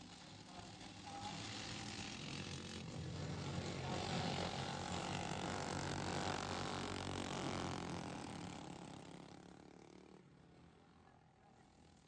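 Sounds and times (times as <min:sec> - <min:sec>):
lawnmower engines racing: 0:00.0 - 0:12.0.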